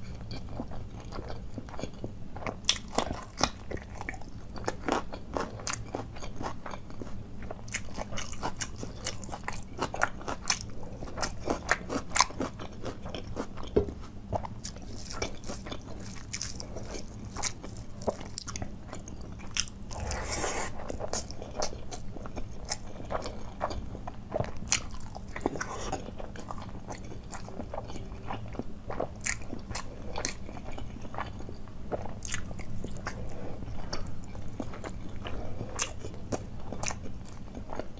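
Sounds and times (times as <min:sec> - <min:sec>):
person chewing crisp food: 0:00.0 - 0:37.9.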